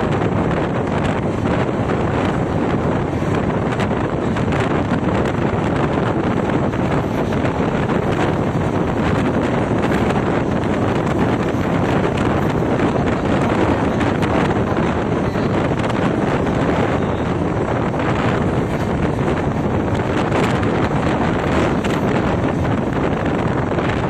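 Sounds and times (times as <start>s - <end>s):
passenger train running at speed: 0.0s - 24.0s
wind on microphone: 0.0s - 24.0s.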